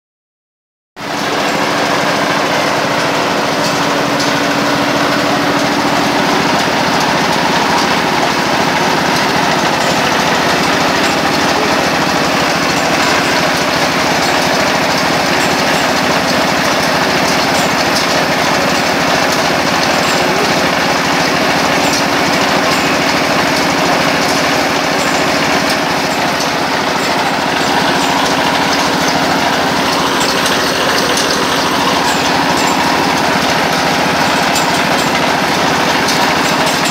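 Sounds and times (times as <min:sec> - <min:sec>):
machine running loudly: 0:01.0 - 0:36.9.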